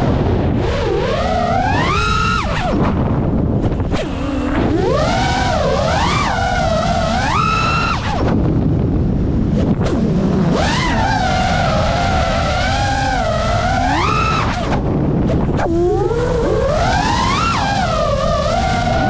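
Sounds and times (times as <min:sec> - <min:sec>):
drone motors whining: 0:00.0 - 0:19.0
wind rumble on microphone: 0:00.0 - 0:19.0.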